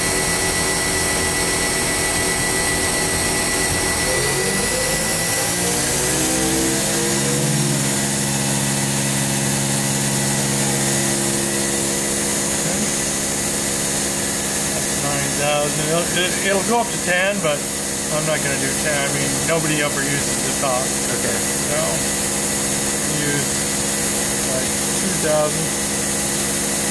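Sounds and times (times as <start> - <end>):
machine running hum: 0.0 - 26.9
machine spindle whine rising: 0.0 - 26.9.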